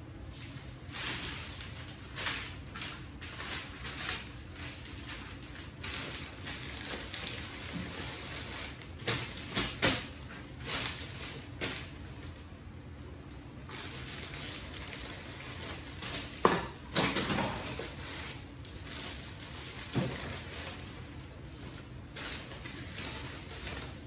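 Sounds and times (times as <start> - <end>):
wrapping paper crinkling: 0.3 - 12.6, 13.2 - 24.0.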